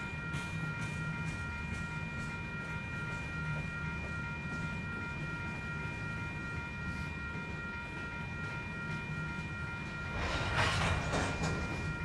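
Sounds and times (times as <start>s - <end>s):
high-pitched whine: 0.0s - 12.0s
wheels rumbling on rail: 0.0s - 12.0s.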